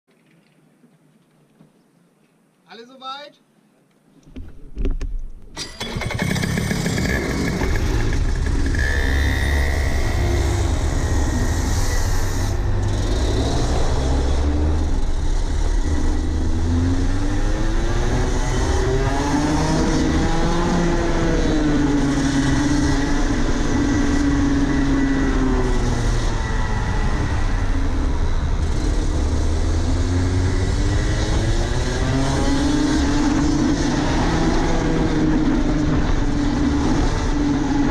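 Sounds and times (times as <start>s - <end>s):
kart engine under load: 5.5s - 37.9s.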